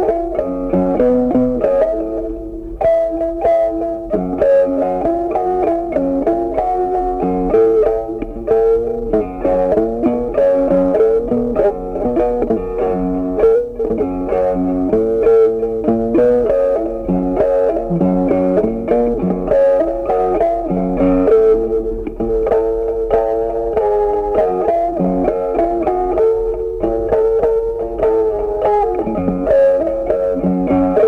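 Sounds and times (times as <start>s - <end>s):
plucked string zither melody: 0.0s - 31.0s.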